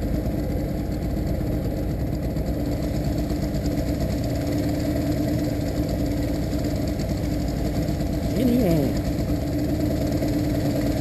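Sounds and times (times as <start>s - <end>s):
outboard motor droning: 0.0s - 11.0s.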